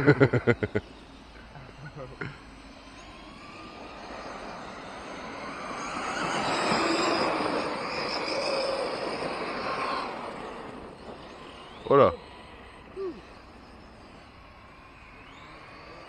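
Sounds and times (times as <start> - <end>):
electric motors whining: 0.0 - 16.0
tyres on track: 0.0 - 16.0.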